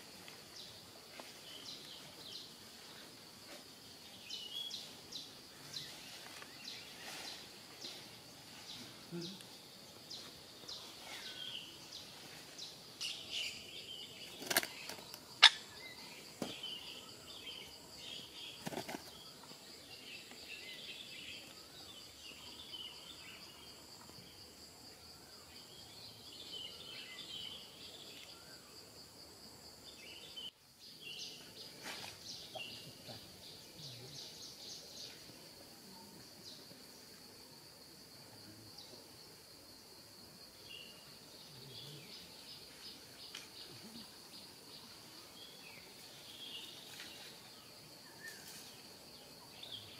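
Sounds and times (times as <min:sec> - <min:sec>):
insect drone: 0:00.0 - 0:49.9.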